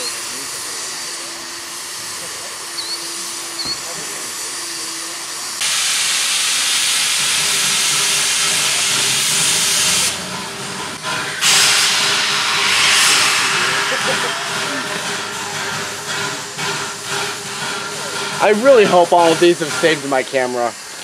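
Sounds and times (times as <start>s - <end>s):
steam locomotive hissing steam: 0.0s - 21.0s.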